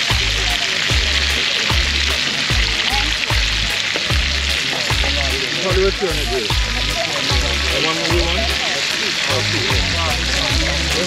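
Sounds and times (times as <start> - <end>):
background music with low beat: 0.0 - 11.0
oil sizzling in a skillet: 0.0 - 11.0.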